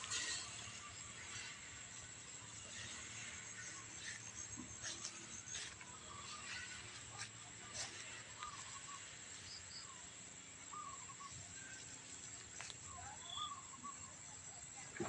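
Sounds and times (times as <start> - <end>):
high insect drone: 0.0 - 14.8.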